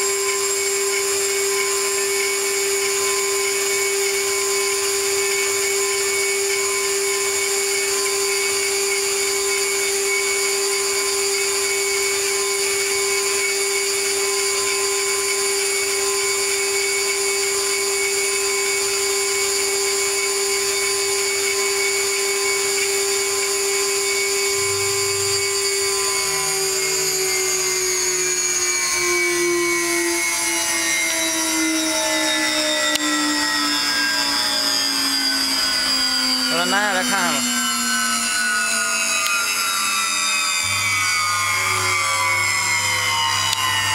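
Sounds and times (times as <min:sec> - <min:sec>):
spindle high whine: 0:00.0 - 0:43.9.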